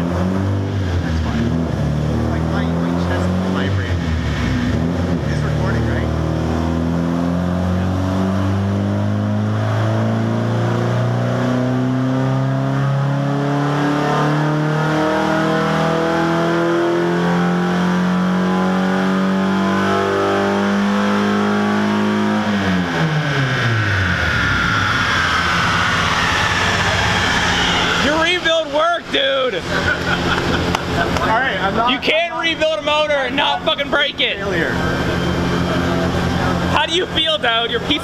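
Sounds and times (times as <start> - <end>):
car engine revving at full throttle: 0.0 - 38.0.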